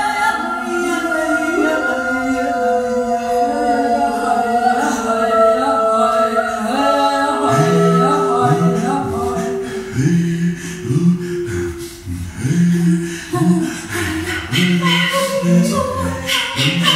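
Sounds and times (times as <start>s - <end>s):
voices singing a cappella: 0.0s - 16.9s.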